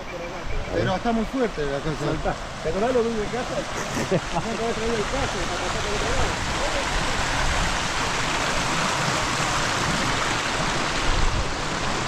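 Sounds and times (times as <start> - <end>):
creek water rushing over rapids: 0.0 - 12.0.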